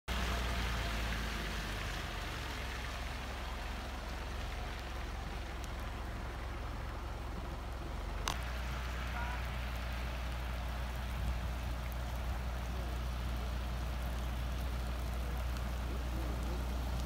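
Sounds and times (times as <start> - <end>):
car engine idling: 0.1 - 17.0
rain on a wet road: 0.1 - 17.0.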